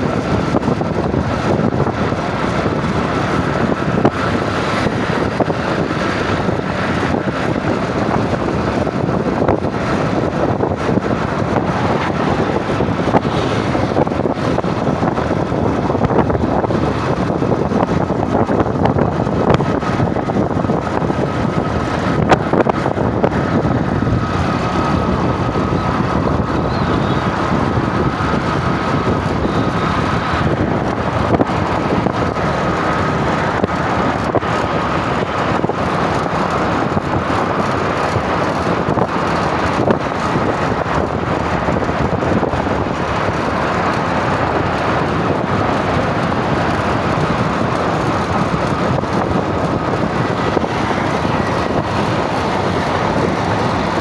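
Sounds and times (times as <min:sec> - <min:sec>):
traffic passing: 0:00.0 - 0:54.0
wind rumbling on microphone: 0:00.0 - 0:54.0.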